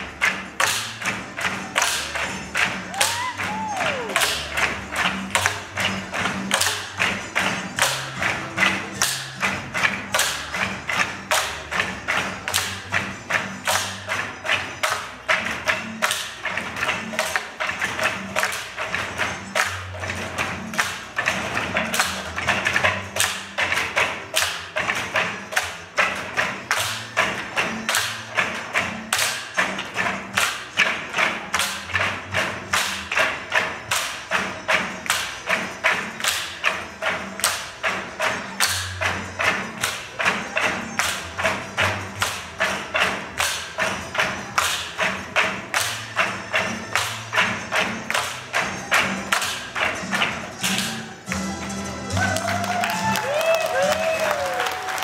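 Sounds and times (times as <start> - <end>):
bamboo poles knocking: 0.0 - 51.3
music: 0.0 - 55.0.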